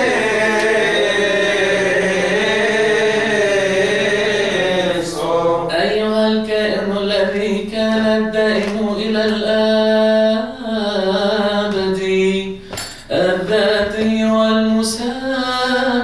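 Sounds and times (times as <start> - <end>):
man chanting a hymn: 0.0 - 16.0.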